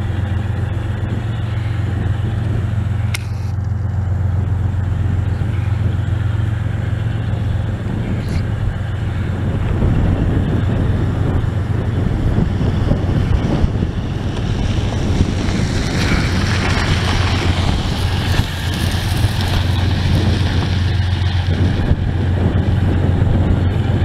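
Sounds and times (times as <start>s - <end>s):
diesel locomotive engines droning: 0.0s - 24.0s
train rushing noise: 0.0s - 24.0s
wind buffeting microphone: 0.0s - 24.0s.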